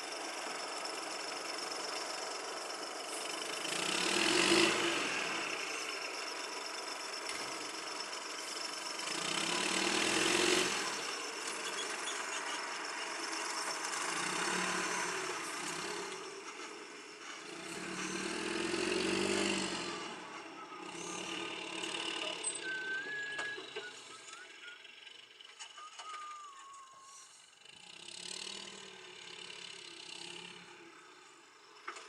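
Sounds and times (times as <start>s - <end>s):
machine engine revving: 0.5s - 26.2s, 27.6s - 32.0s.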